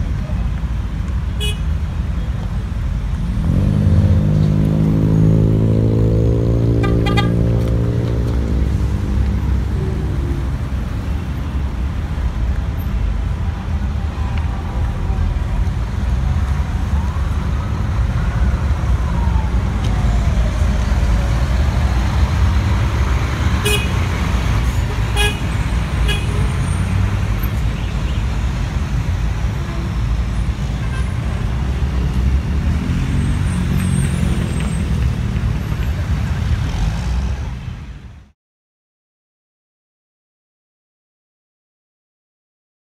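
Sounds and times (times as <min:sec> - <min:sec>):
street traffic: 0:00.0 - 0:38.4.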